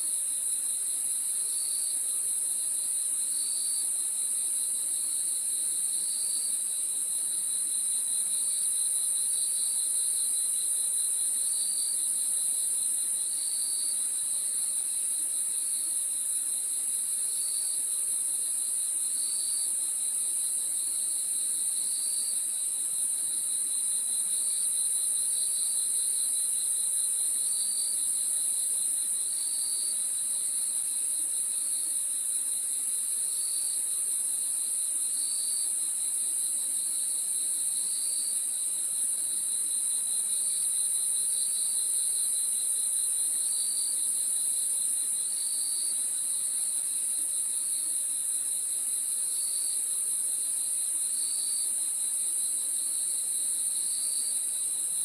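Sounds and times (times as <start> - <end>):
crickets trilling: 0.2 - 55.0.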